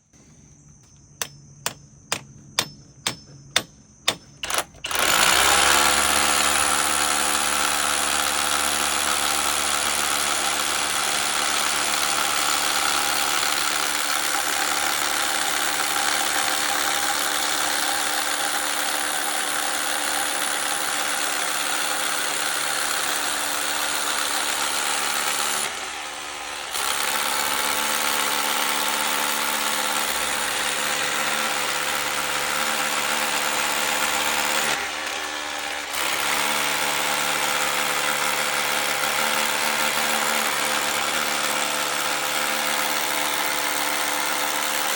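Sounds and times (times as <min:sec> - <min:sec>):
rotary hammer drilling concrete: 0:00.9 - 0:44.9.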